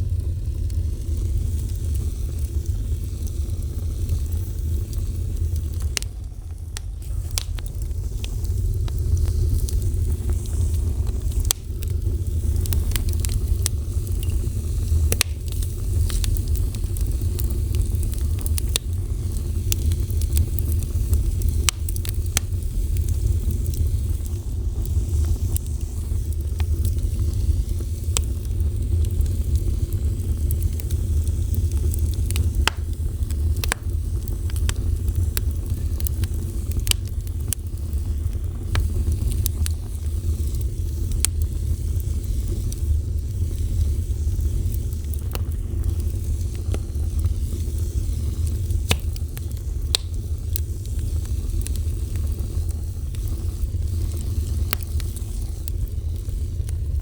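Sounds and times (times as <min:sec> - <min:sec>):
fire crackles and pops: 0:00.0 - 0:57.0
wood fire roaring: 0:00.0 - 0:57.0.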